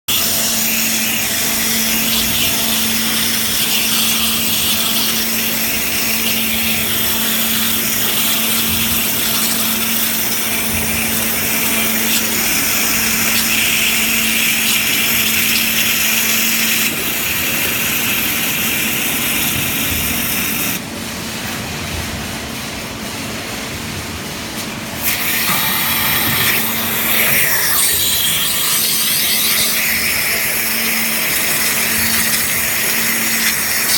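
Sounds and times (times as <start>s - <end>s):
high-pressure water jet hissing: 0.1s - 20.8s, 25.0s - 33.9s.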